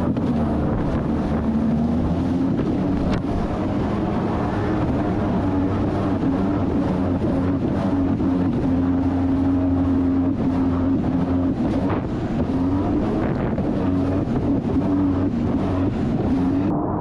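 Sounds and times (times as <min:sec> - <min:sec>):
jet ski engine running: 0:00.0 - 0:17.0
wind buffeting microphone: 0:00.0 - 0:17.0.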